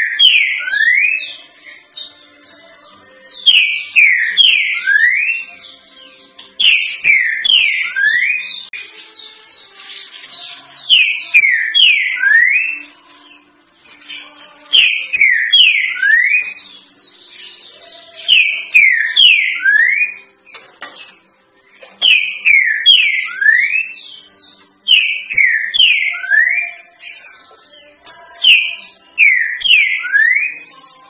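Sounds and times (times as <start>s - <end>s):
bird singing whistled notes: 0.0s - 9.7s, 10.7s - 13.0s, 14.2s - 20.3s, 22.0s - 27.8s, 28.4s - 31.0s.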